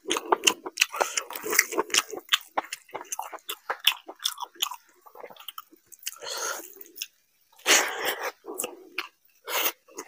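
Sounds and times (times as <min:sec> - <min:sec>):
smacking and chewing: 0:00.0 - 0:07.2, 0:08.0 - 0:10.0.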